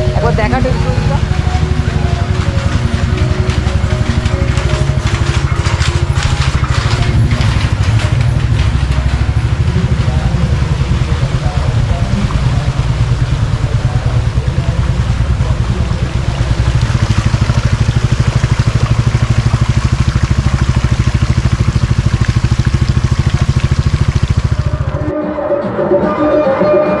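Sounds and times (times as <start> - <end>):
motorcycle engine running: 0.0 - 25.1.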